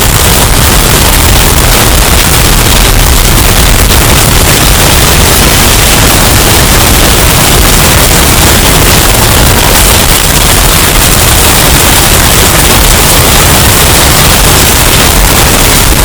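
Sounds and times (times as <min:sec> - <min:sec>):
distorted hurricane wind: 0:00.0 - 0:16.0.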